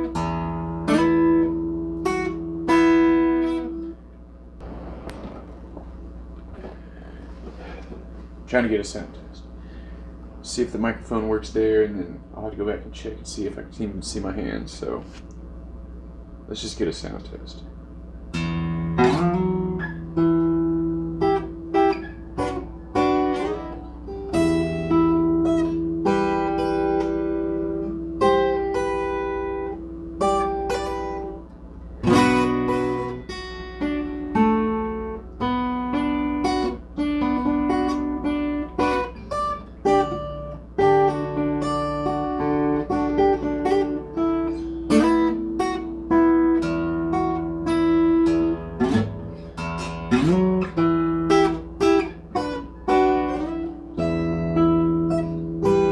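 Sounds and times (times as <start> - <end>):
acoustic guitar playing: 0.0 - 8.3, 18.1 - 55.9.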